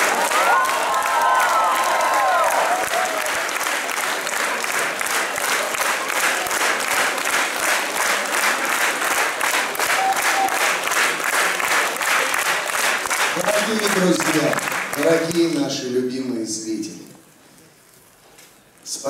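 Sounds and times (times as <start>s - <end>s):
audience clapping in unison: 0.0s - 15.8s.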